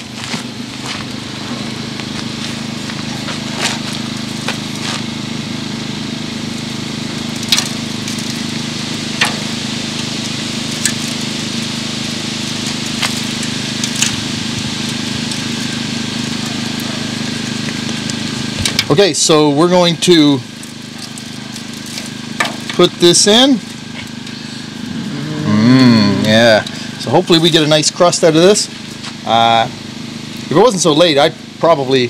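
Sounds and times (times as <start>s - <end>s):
low hum: 0.0s - 30.6s.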